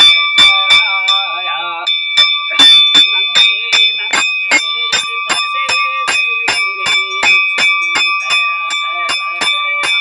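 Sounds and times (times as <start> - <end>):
hand bell ringing: 0.0 - 10.0.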